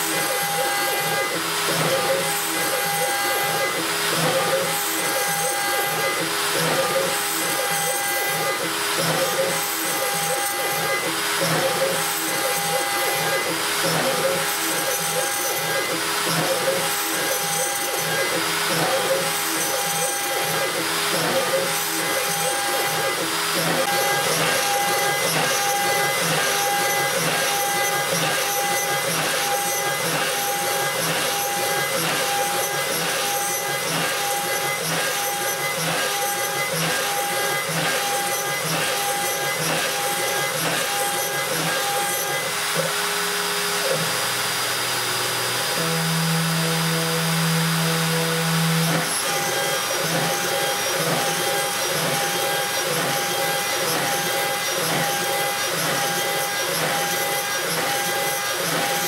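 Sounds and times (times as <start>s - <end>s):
machine axes humming: 0.0s - 59.0s
router cutting aluminium: 0.0s - 59.0s.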